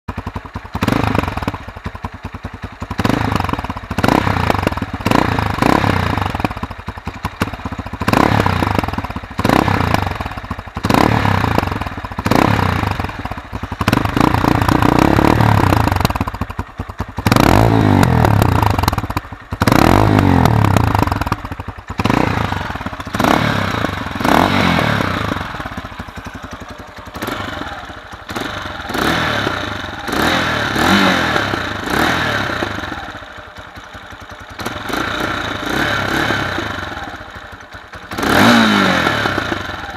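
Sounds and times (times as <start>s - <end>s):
engine revving: 0.8s - 1.6s, 3.0s - 6.6s, 7.4s - 16.4s, 17.2s - 33.3s, 34.6s - 37.4s, 38.1s - 39.9s.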